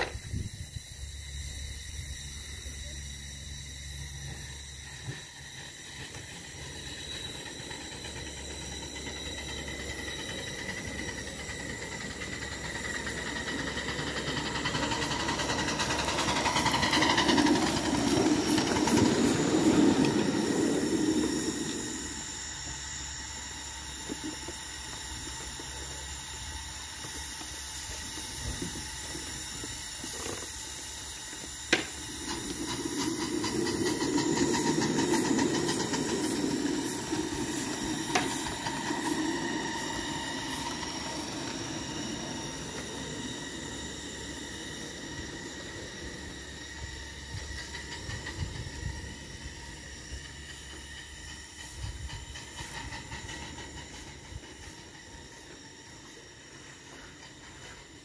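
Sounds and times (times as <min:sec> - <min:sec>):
steam locomotive hissing: 0:00.0 - 0:58.0
train rumble with fast ticking: 0:00.0 - 0:58.0.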